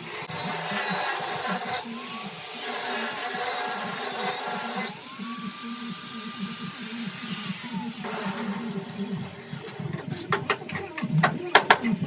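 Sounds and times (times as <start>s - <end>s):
power tool whine: 0.0s - 9.7s
power tool grinding hiss: 0.0s - 9.9s.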